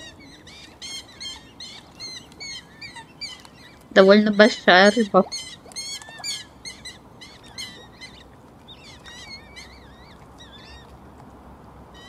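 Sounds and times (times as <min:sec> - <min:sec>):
birds calling high-pitched: 0:00.0 - 0:11.0.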